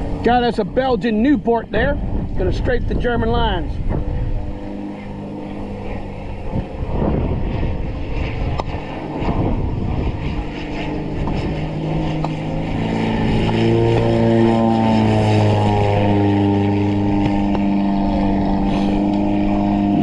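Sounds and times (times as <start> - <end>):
biplane engine droning: 0.0 - 20.0
wind rumbling on microphone: 0.0 - 20.0.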